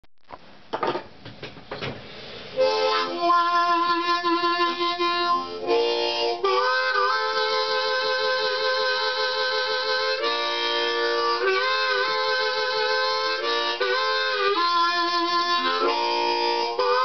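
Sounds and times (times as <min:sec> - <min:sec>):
harmonica playing chords: 0:02.5 - 0:17.0.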